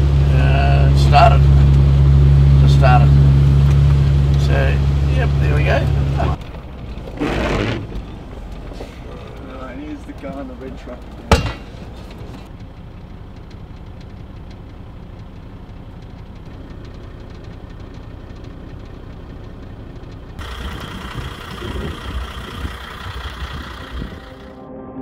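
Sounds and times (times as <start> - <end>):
vehicle engine running: 0.0 - 24.7.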